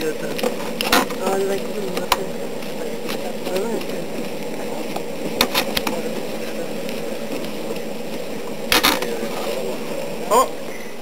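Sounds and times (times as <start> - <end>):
furnace rushing drone: 0.0 - 11.0.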